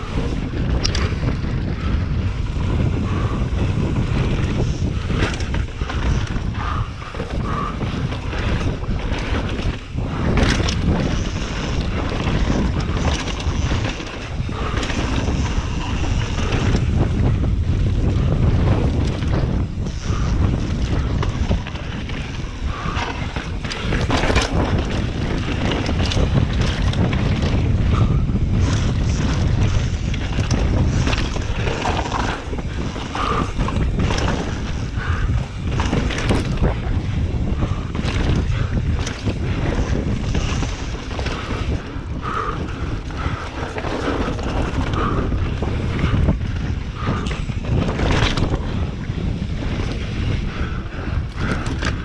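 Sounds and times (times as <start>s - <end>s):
bike chain and frame rattling: 0.0s - 52.0s
wind rushing over microphone: 0.0s - 52.0s.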